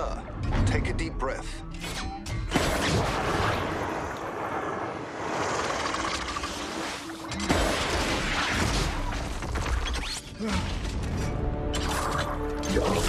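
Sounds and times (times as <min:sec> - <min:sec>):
film music score: 0:00.0 - 0:13.0.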